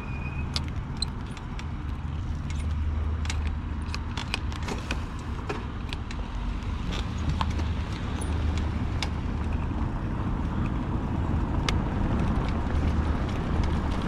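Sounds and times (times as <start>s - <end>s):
e-bike riding rumble: 0.0s - 14.0s
sharp clicks and rattles: 0.4s - 4.7s, 5.7s - 14.0s.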